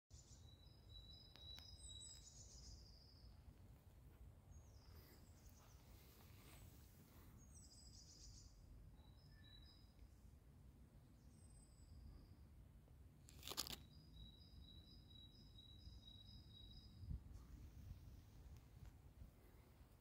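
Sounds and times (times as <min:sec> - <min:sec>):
songbirds singing faintly: 0:00.1 - 0:20.0.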